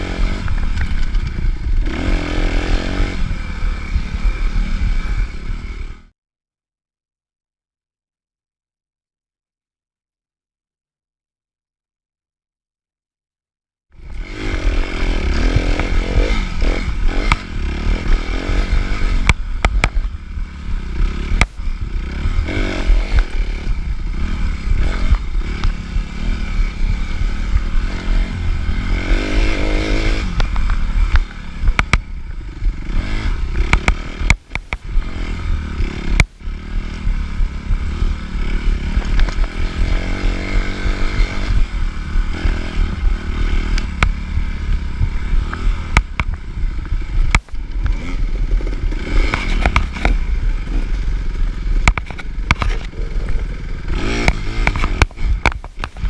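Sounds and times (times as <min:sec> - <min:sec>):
dirt bike engine revving: 0:00.0 - 0:06.1, 0:14.0 - 0:56.0.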